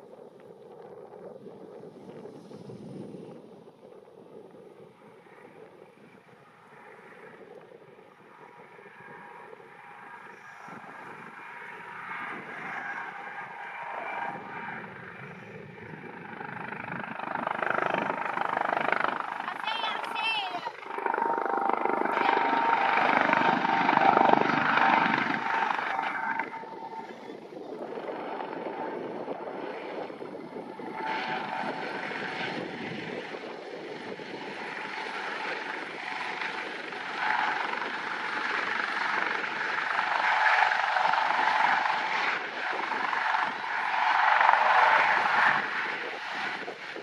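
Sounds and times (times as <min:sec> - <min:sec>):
helicopter rotor and turbine whine: 0:00.0 - 0:47.0.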